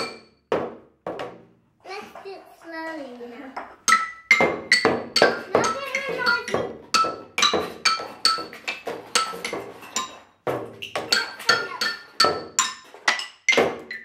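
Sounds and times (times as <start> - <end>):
toy drum beaten with sticks: 0.0 - 1.5, 3.8 - 14.0.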